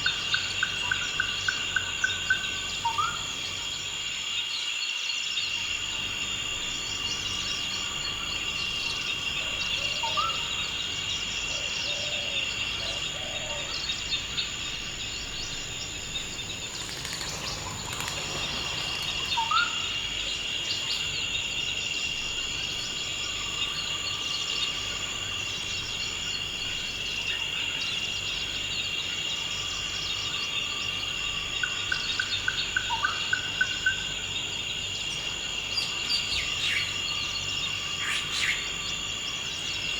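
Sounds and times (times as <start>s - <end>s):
high-pitched insect trill: 0.0s - 39.9s.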